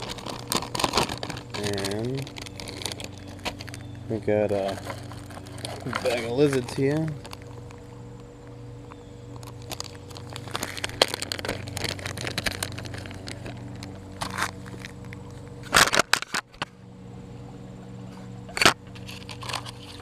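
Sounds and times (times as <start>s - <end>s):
plastic bag crinkling: 0.0s - 8.3s, 9.3s - 16.6s, 18.6s - 20.0s
steady low hum: 0.0s - 20.0s.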